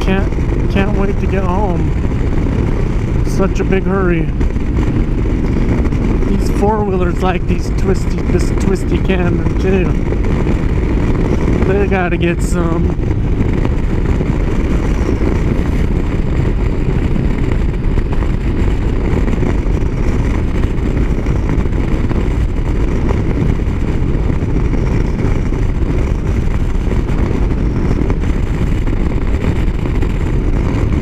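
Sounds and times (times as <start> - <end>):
motorcycle engine drone: 0.0 - 31.0
wind rush over microphone: 0.0 - 31.0.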